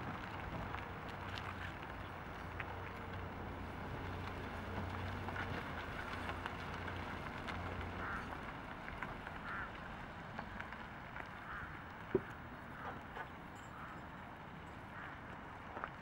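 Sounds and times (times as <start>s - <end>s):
car engine low hum: 0.0s - 14.6s
tyre noise on asphalt: 0.0s - 16.0s.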